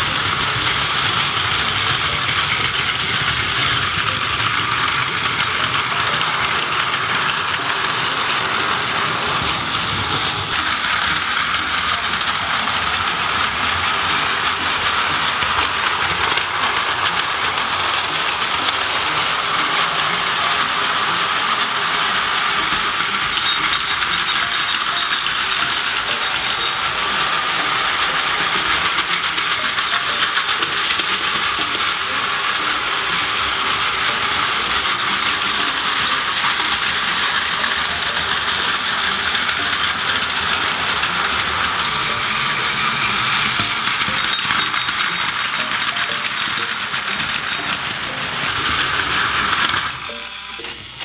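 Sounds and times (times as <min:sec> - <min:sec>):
toy train motors whirring: 0:00.0 - 0:51.0
toy train wheels rattling: 0:00.0 - 0:51.0.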